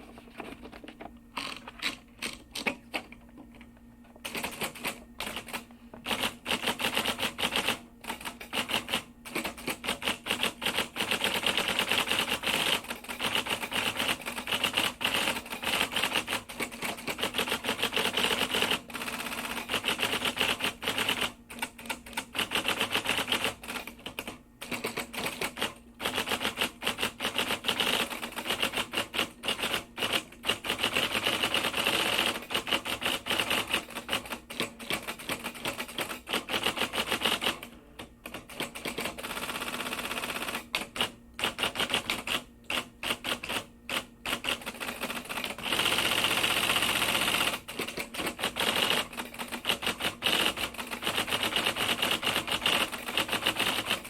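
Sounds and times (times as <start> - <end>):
typewriter typing: 0.0 - 3.2, 4.2 - 54.0.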